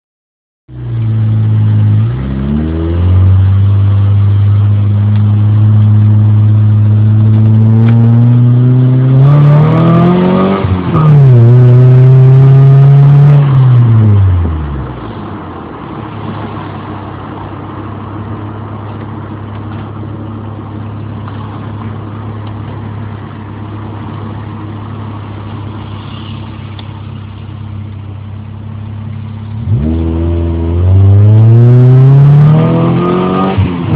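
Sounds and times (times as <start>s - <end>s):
car engine revving: 0.7s - 33.9s.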